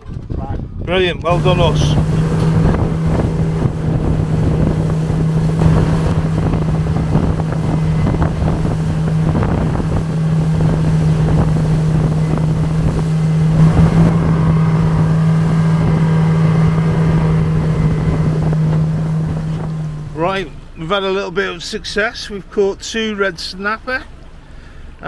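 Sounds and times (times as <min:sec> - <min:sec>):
wind buffeting microphone: 0:00.0 - 0:20.8
speedboat engine running: 0:01.3 - 0:25.0.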